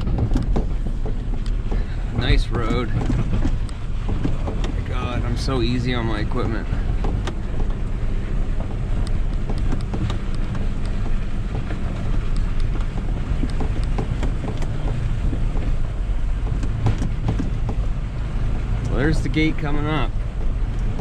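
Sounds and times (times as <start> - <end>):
diesel engine rumble: 0.0 - 21.0
road noise inside cab: 0.0 - 21.0
small knocks and rattles: 0.0 - 21.0.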